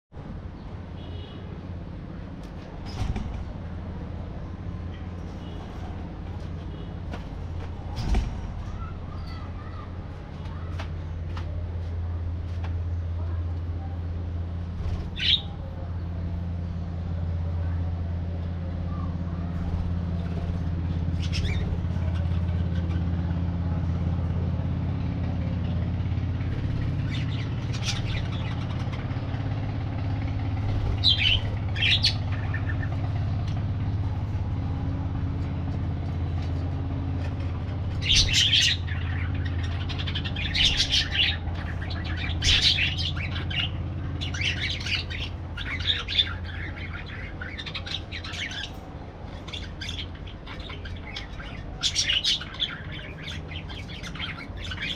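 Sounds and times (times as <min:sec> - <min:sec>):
steady low hum: 0:00.2 - 0:54.9
parakeets chirping and squawking: 0:02.5 - 0:11.2, 0:14.6 - 0:16.6, 0:19.0 - 0:54.9.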